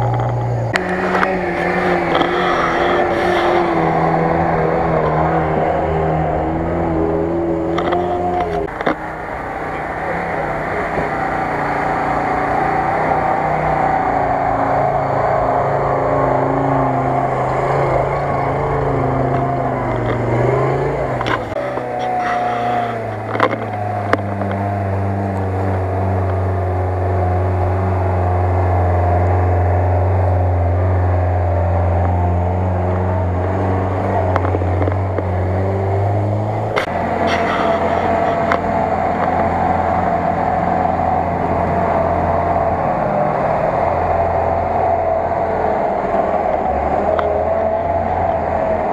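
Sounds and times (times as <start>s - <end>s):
off-road vehicle engine under load: 0.0s - 48.9s.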